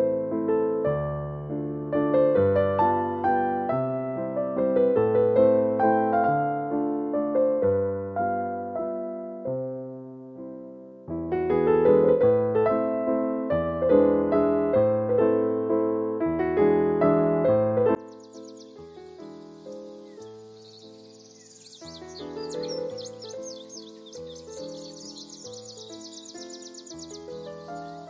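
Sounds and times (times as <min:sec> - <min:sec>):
gentle classical piano music: 0:00.0 - 0:28.0.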